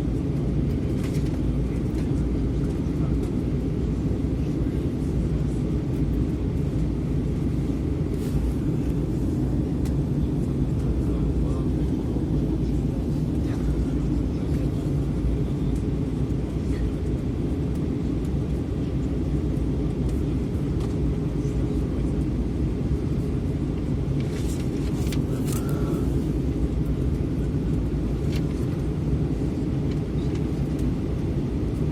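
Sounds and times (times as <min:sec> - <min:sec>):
airliner engine rumble in cabin: 0:00.0 - 0:31.9.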